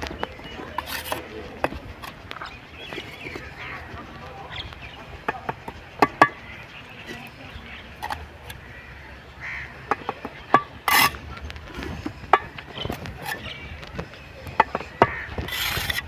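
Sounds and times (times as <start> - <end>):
trowel scraping: 0.0 - 9.0, 9.8 - 16.0
trowel tapping on brick: 0.0 - 9.0, 9.6 - 16.0.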